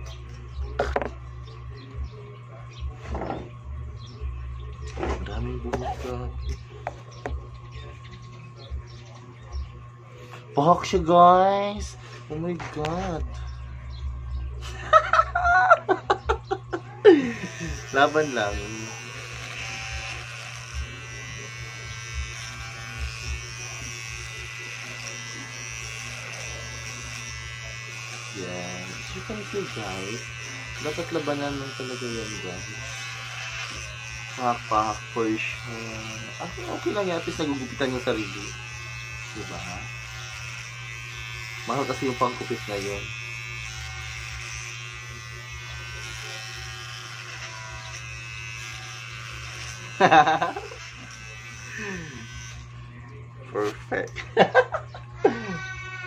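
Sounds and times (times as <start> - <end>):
electric hair clipper buzzing: 10.2 - 56.0.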